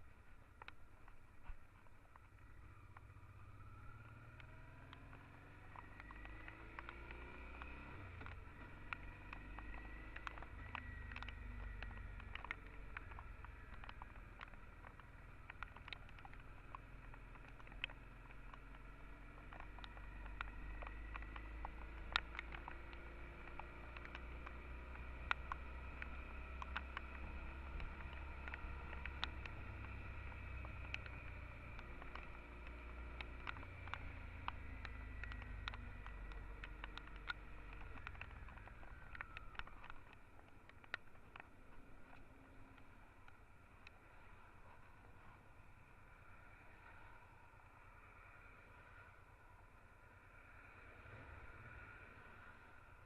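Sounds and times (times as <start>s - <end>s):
motorcycle engine running: 0.0s - 49.1s
rain drops ticking on camera: 0.0s - 49.1s.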